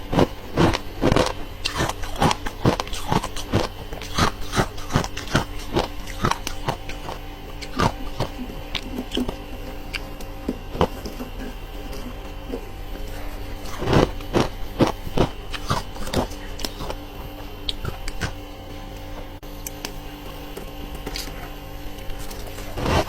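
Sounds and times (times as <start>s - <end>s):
ice being chewed: 0.0s - 23.0s
low hum: 0.0s - 23.0s.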